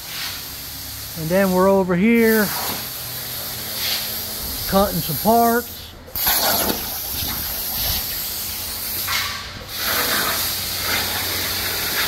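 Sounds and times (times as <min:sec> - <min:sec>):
plasma cutter hissing: 0:00.0 - 0:12.0.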